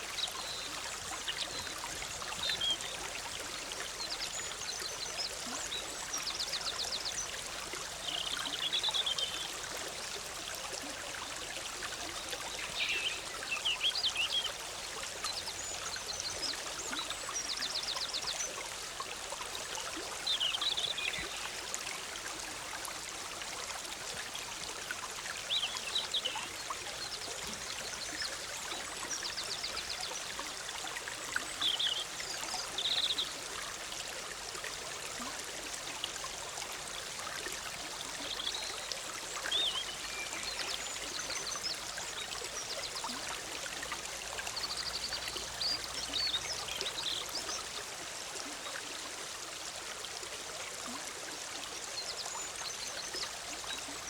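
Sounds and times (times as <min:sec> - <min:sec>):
stream bubbling: 0:00.0 - 0:54.0.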